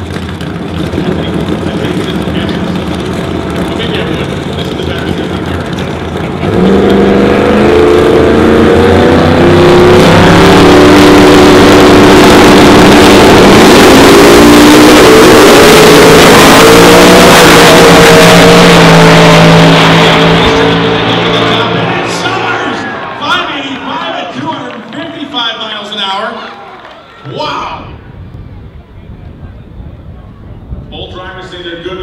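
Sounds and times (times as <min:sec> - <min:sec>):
drag racing cars launching: 0:00.0 - 0:26.4.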